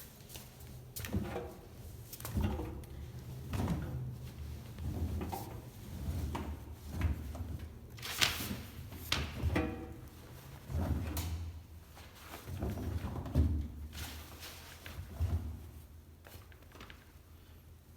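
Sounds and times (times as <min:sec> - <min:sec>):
wet towels tumbling in washing machine: 0:00.8 - 0:17.2.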